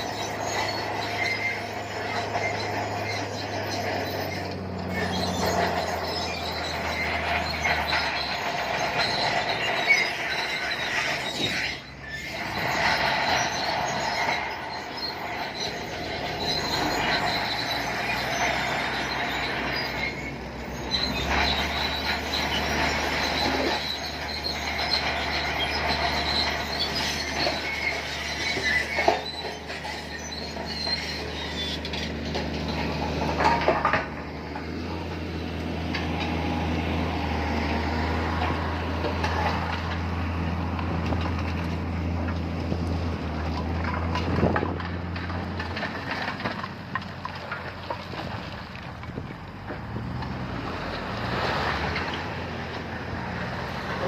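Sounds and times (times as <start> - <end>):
bulldozer diesel engine droning: 0.0 - 54.0
steel tracks squealing: 0.0 - 54.0.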